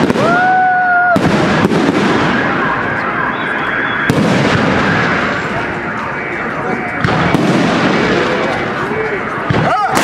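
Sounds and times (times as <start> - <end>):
firework whistle: 0.0 - 8.5
firework bangs: 0.0 - 10.0
fireworks crackling: 0.0 - 10.0.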